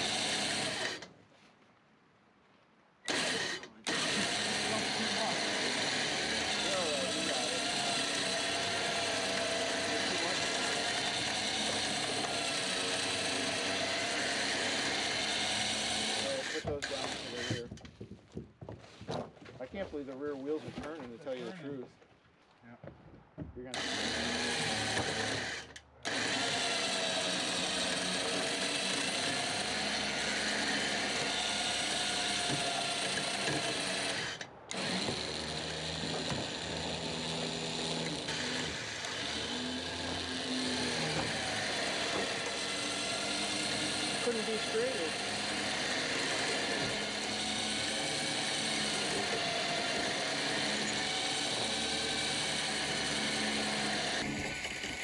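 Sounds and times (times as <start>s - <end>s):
winch running: 3.1s - 17.6s, 23.8s - 55.0s.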